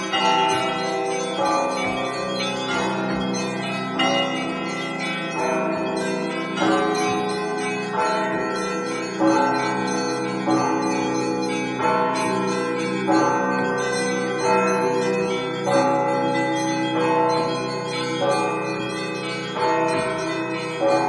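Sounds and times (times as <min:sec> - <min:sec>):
hum of large bells: 0:00.0 - 0:21.0
small bells chiming: 0:00.0 - 0:21.0.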